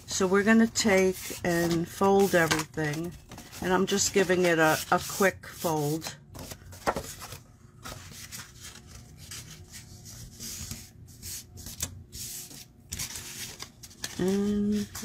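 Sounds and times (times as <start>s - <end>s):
cardstock being folded: 0.8s - 5.2s, 6.0s - 15.0s.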